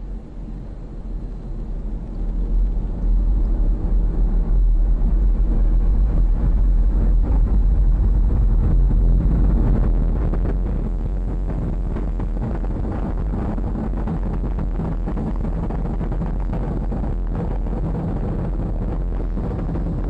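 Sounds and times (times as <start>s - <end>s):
rocket engines rumbling and crackling: 0.0s - 20.0s.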